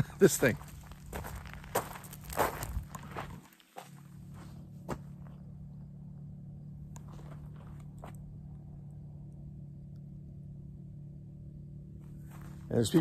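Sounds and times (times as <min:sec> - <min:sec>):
distant motorbike engines droning: 0:00.0 - 0:13.0.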